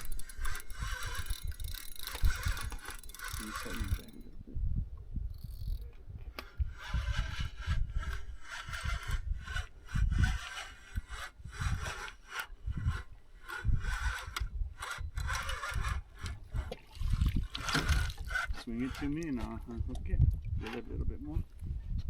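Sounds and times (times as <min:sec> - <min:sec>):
fishing reel rasping: 0:00.0 - 0:04.3, 0:05.3 - 0:19.7.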